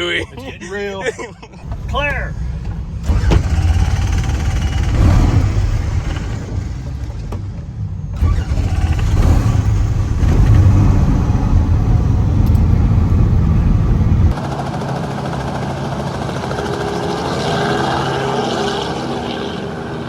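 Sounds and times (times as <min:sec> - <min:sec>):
car engines revving: 0:00.0 - 0:14.6, 0:15.9 - 0:20.0.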